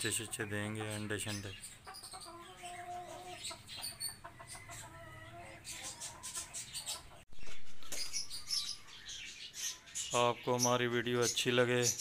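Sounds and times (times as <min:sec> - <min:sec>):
bird chirping: 0:00.0 - 0:12.0
chickens clucking: 0:00.0 - 0:12.0.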